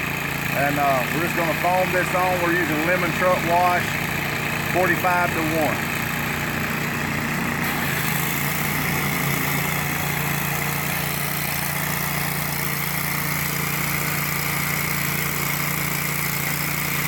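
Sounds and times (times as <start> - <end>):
pressure washer engine hum: 0.0 - 17.0.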